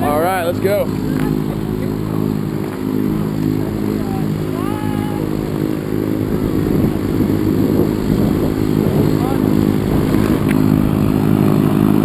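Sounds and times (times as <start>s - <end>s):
aircraft engine humming: 0.0s - 12.0s.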